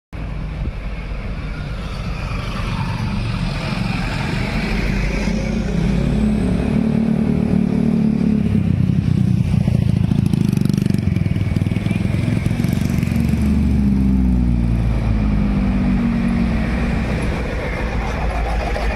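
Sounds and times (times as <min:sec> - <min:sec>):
truck engine passing: 0:00.4 - 0:18.9
car engine: 0:01.2 - 0:18.9
motorcycle engine: 0:03.2 - 0:18.9.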